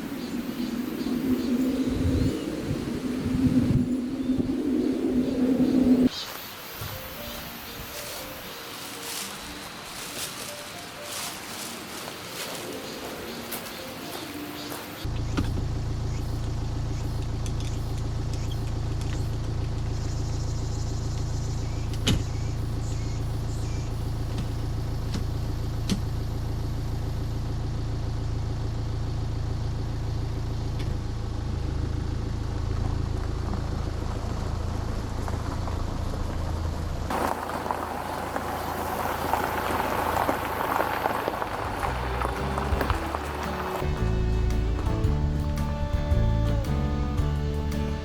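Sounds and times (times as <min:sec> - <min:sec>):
car engine and road rumble: 0:00.0 - 0:06.1, 0:06.9 - 0:48.0.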